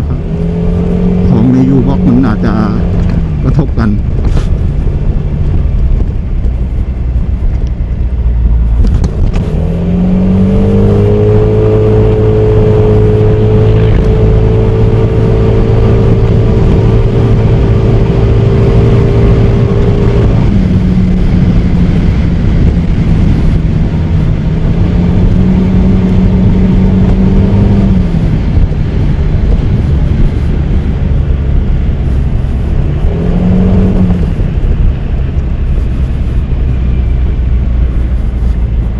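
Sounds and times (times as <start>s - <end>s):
wind and road rumble: 0.0s - 38.9s.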